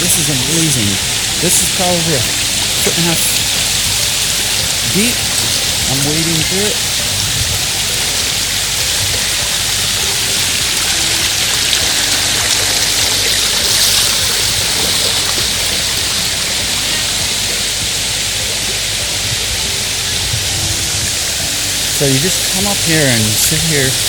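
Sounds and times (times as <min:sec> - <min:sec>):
water rushing down cascades: 0:00.0 - 0:24.0.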